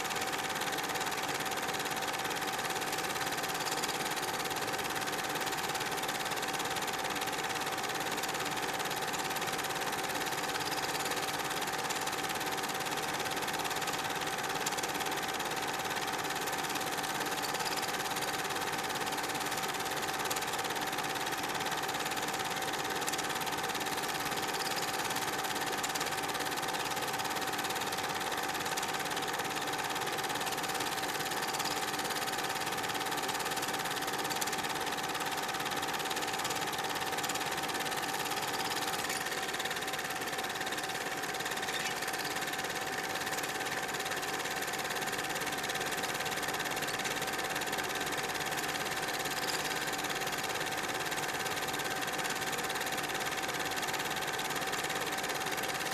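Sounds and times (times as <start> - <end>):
film projector whirring and clattering: 0.0 - 55.9.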